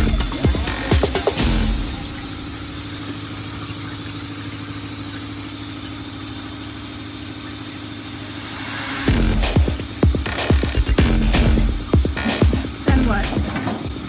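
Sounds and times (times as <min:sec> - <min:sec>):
fluid spraying from nozzles: 0:00.0 - 0:14.0
machine hum: 0:00.0 - 0:14.0.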